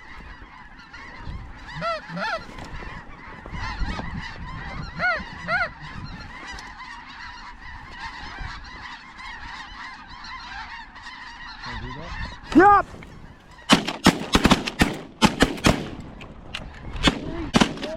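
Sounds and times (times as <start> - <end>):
geese honking: 0.0 - 17.9.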